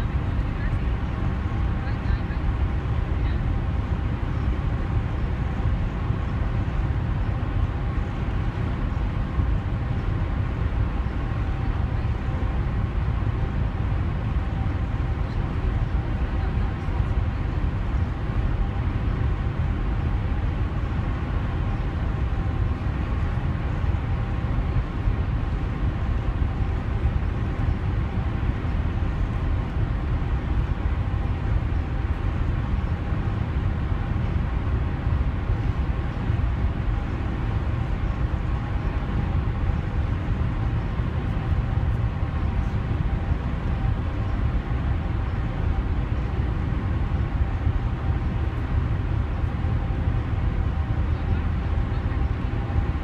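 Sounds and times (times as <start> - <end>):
faint steady hum: 0.0 - 53.0
ship engine rumble: 0.0 - 53.0.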